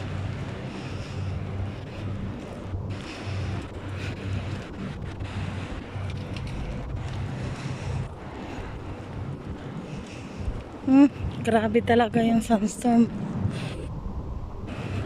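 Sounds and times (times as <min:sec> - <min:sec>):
rushing wind: 0:00.0 - 0:15.0
wind buffeting microphone: 0:00.0 - 0:15.0.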